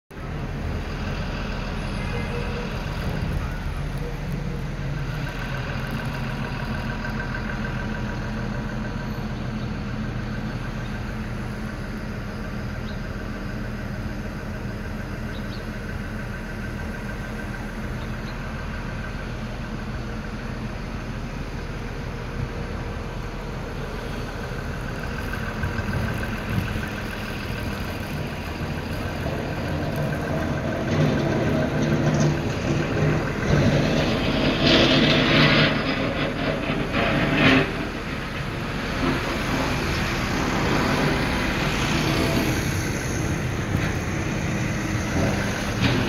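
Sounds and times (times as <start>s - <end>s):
city street traffic: 0.1s - 46.0s.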